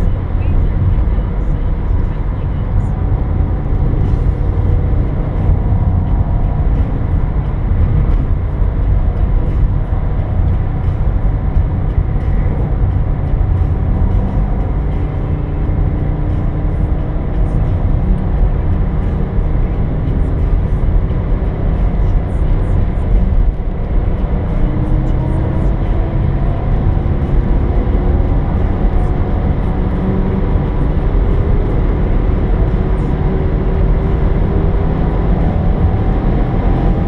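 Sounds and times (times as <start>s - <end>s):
tyre and road noise: 0.0s - 37.0s.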